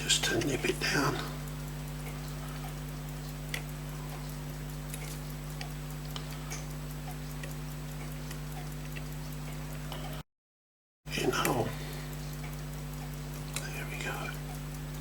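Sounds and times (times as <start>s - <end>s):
low electrical hum: 0.0s - 10.2s, 11.1s - 15.0s.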